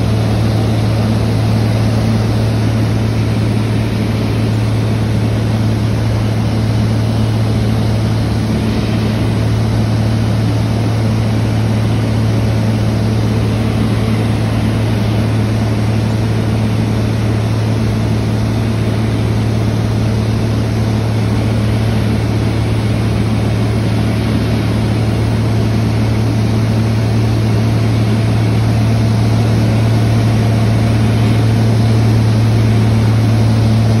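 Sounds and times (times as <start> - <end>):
aircraft engine and propeller drone: 0.0 - 34.0.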